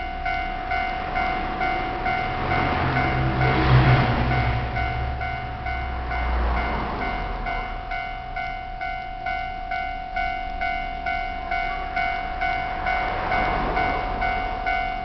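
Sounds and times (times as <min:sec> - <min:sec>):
level-crossing bell clanging: 0:00.0 - 0:15.0
train running over crossing: 0:00.0 - 0:15.0.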